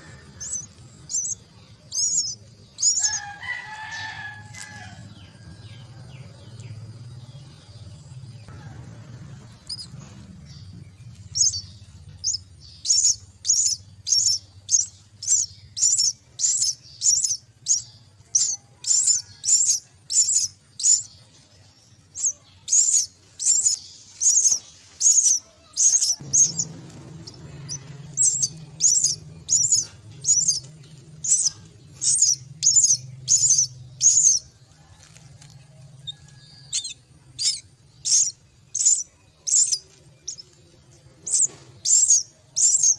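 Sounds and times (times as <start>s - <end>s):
chicks begging calls: 0.0s - 42.9s.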